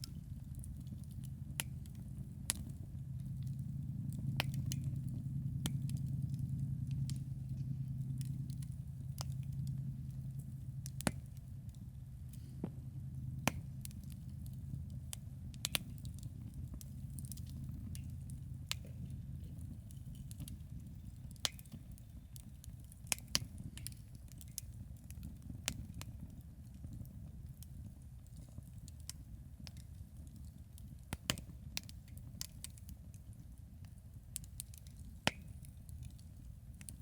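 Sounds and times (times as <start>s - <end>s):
campfire crackling and popping: 0.0s - 37.0s
low steady rumble: 0.0s - 37.0s.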